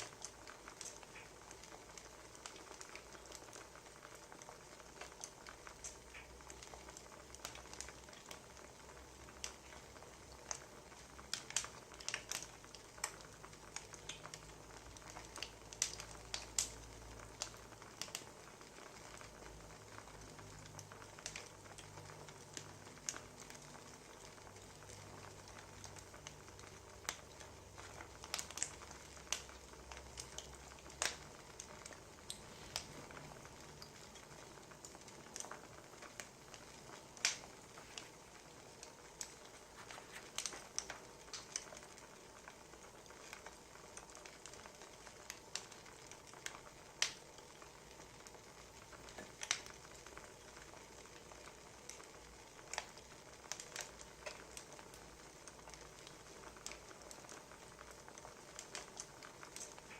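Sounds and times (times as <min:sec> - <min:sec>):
faint steady hiss: 0:00.0 - 0:59.9
firewood crackling: 0:00.0 - 0:59.9.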